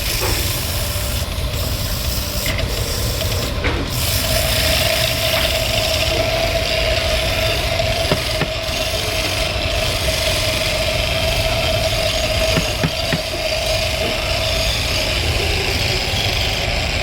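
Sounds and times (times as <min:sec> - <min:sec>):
power tool motor humming: 0:00.0 - 0:16.7.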